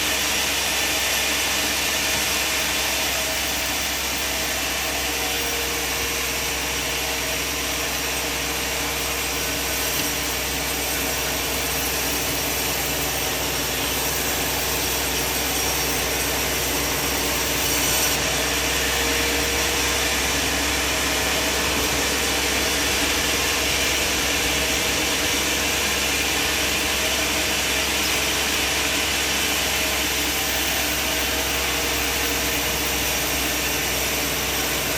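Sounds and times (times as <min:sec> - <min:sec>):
band sawmill sawing timber: 0:00.0 - 0:34.9.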